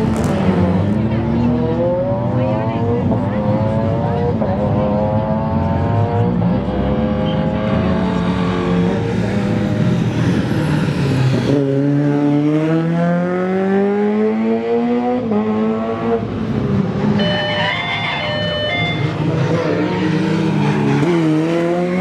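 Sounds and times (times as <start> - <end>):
rally car engine accelerating hard: 0.0 - 17.2, 19.0 - 22.0.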